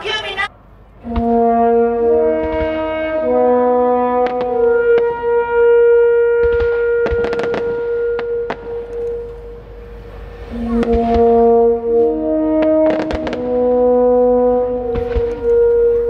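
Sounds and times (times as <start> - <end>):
sharp bangs: 0.0 - 16.0
horn-like music over loudspeakers: 1.0 - 16.0.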